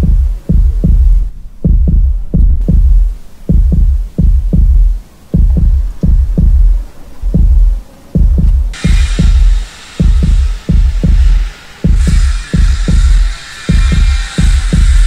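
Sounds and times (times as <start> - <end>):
heartbeat thumps: 0.0 - 15.0.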